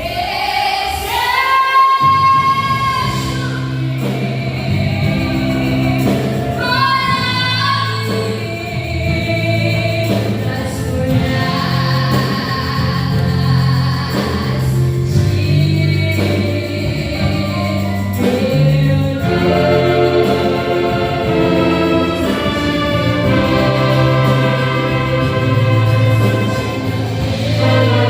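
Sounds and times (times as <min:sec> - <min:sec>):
voices singing together: 0:00.0 - 0:15.2, 0:16.2 - 0:28.0
gospel band playing: 0:00.0 - 0:28.0.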